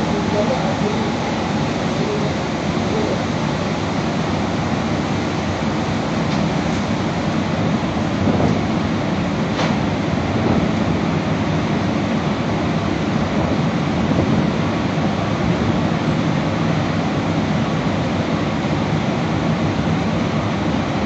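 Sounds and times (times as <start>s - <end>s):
car wash machine rumbling: 0.0s - 21.0s.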